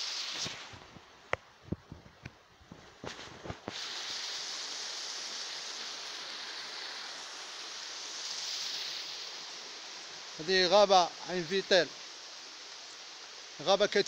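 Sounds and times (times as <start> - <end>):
flowing water hissing: 0.0 - 1.6, 2.7 - 14.0.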